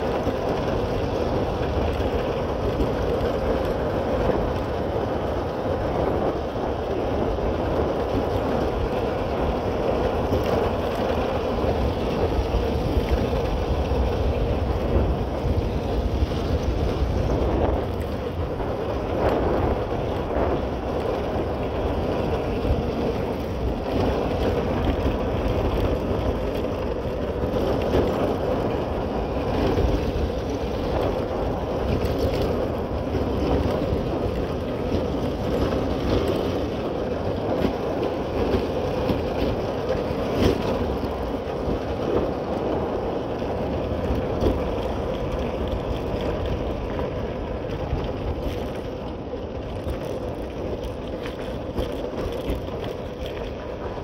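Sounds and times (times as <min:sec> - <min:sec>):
wind on microphone: 0:00.0 - 0:54.0.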